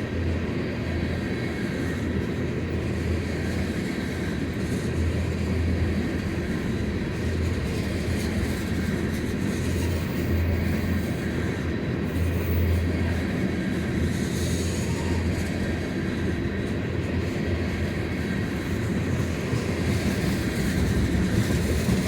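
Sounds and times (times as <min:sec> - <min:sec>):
freight cars rolling on rails: 0:00.0 - 0:22.0.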